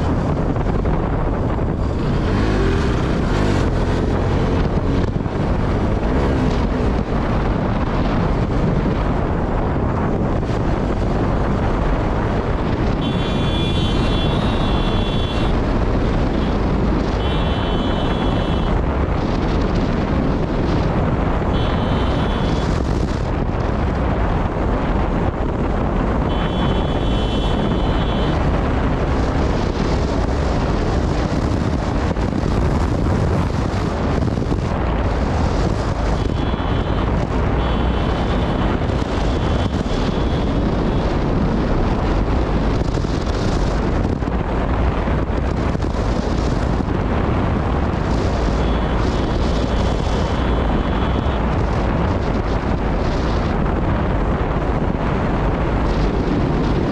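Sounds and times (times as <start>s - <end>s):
motorcycle engine: 0.0s - 43.8s, 45.7s - 53.5s
wind buffeting microphone: 0.0s - 56.9s.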